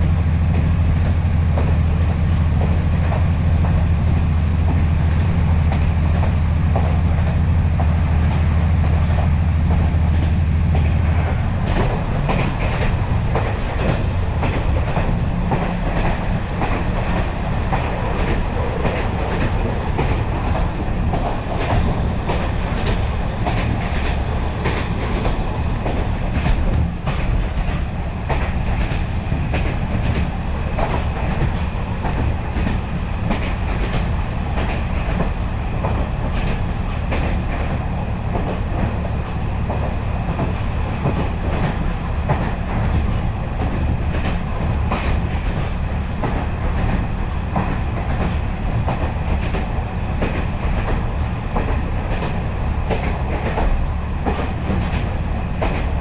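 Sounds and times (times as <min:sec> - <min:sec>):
train rumble: 0:00.0 - 0:56.0
wheels clacking over rail joints: 0:04.6 - 0:56.0.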